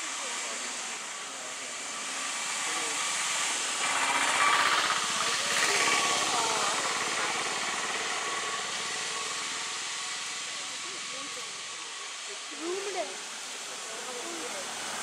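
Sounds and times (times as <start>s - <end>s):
engine running: 0.0s - 15.0s
steady hiss: 0.0s - 15.0s.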